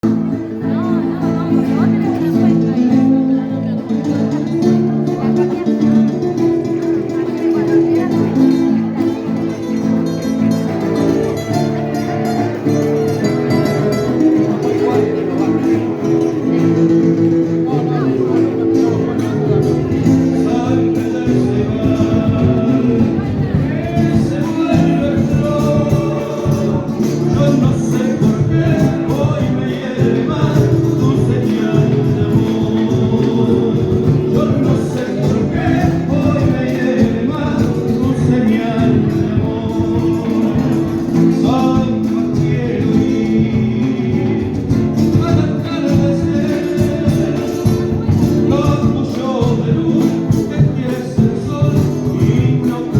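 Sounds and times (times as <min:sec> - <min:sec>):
folk music on plucked strings: 0:00.0 - 0:52.9
steady percussion beat: 0:04.2 - 0:52.9.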